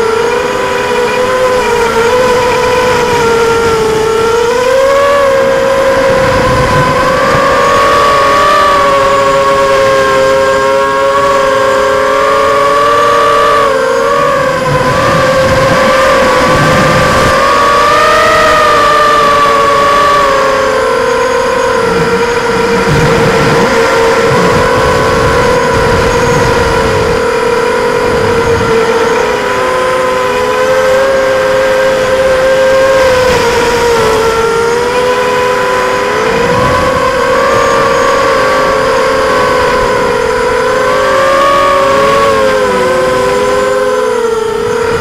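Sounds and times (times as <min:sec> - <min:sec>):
quadcopter propellers buzzing: 0:00.0 - 0:45.0.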